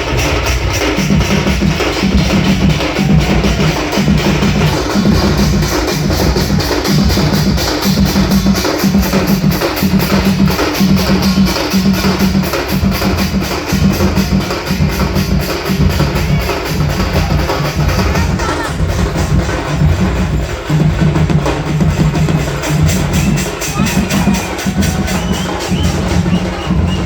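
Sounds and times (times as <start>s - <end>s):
loud music with fast drum beat: 0.0s - 27.0s.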